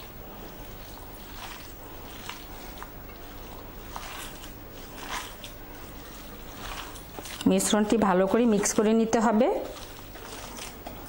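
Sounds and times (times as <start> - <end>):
hand squishing wet mixture: 0.0 - 11.0.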